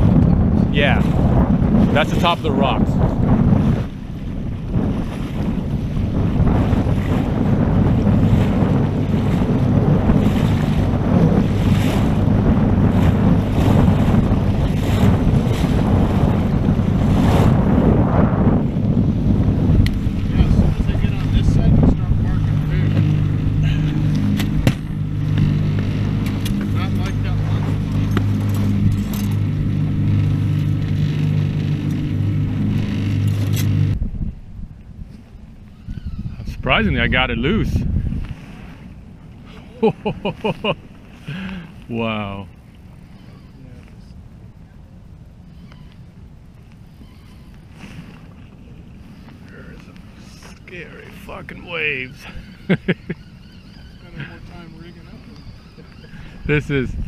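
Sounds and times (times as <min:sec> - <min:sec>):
outboard motor running: 0:00.0 - 0:57.0
water splashing along boat hull: 0:00.0 - 0:57.0
wind buffeting microphone: 0:00.0 - 0:57.0.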